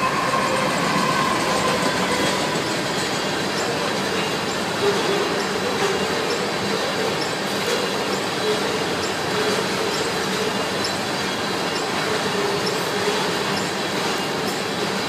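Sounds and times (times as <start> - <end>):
steel wheels rumbling on rails: 0.0 - 15.0
train wheel squeal: 0.0 - 15.0.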